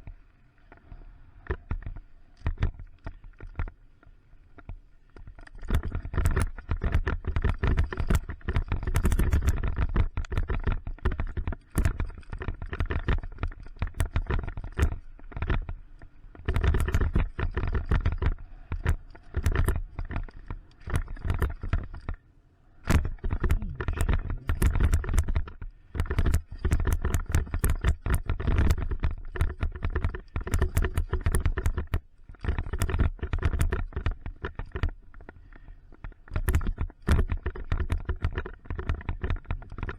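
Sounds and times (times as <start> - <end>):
bike rattling and knocking: 5.2 - 22.2, 22.8 - 35.3, 36.0 - 39.9.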